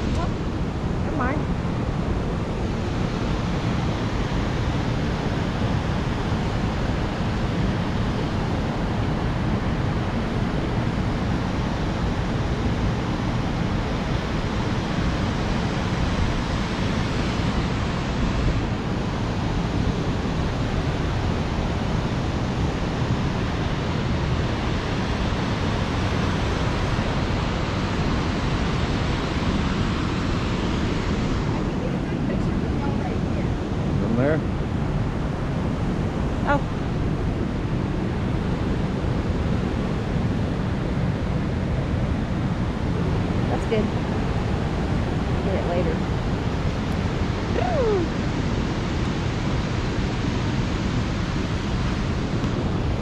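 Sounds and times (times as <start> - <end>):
steady low rushing noise: 0.0 - 53.0.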